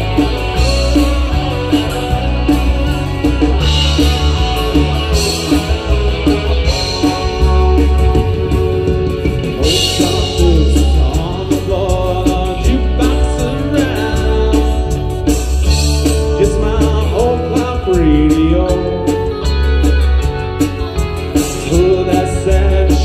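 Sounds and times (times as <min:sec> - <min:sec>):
bass guitar: 0:00.0 - 0:23.0
drums: 0:00.0 - 0:23.0
electric guitar: 0:00.0 - 0:23.0
keyboard: 0:00.0 - 0:23.0.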